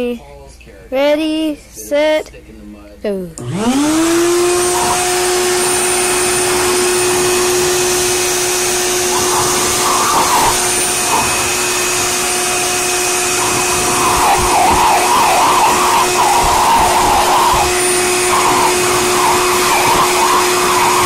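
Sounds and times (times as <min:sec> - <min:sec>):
electric blower motor whine: 0:03.4 - 0:21.0.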